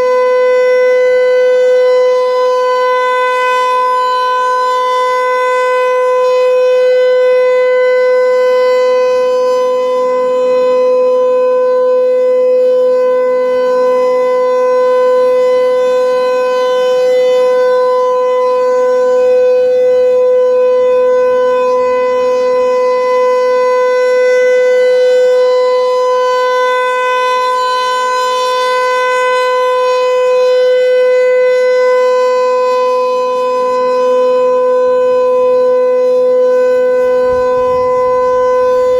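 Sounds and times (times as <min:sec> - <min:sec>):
rotating siren steady high tone: 0:00.0 - 0:38.9.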